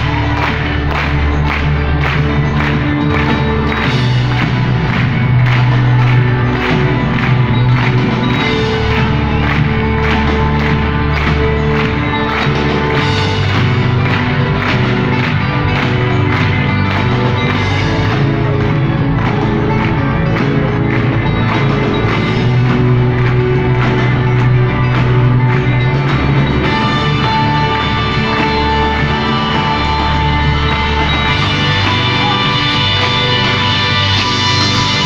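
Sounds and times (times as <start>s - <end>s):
drums steady beat: 0.0s - 35.0s
sustained guitar chords: 0.0s - 35.0s.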